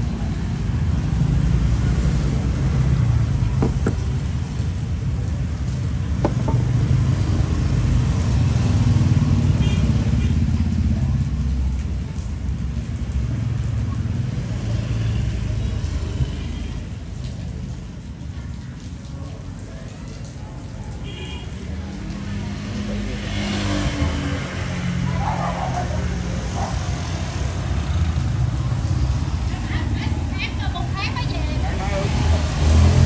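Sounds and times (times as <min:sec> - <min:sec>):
traffic rumbling: 0:00.0 - 0:33.0.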